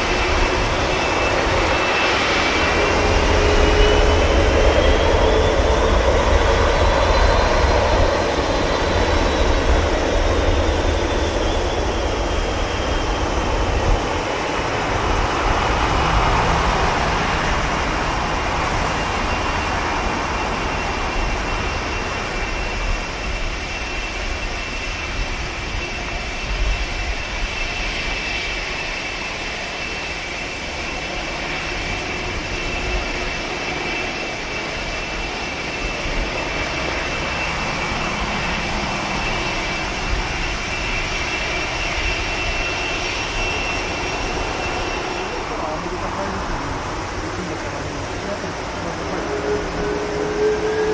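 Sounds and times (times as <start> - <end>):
jet engine roar: 0.0 - 50.9.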